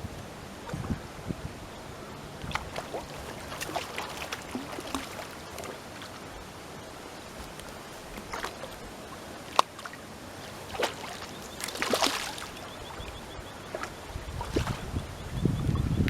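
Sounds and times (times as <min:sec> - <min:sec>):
water splashing and sloshing: 0:02.2 - 0:15.9.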